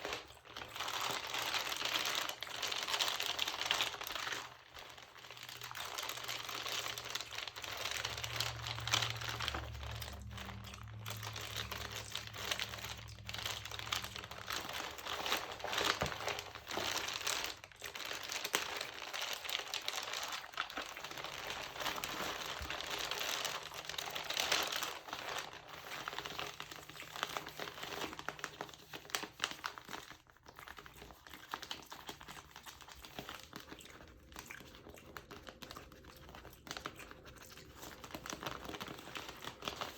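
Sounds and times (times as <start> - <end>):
paper crinkling: 0.0 - 39.9.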